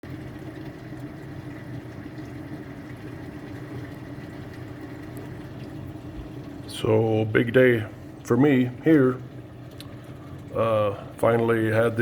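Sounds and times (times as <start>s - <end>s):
pump hum: 0.0s - 12.0s
water flowing: 0.0s - 12.0s.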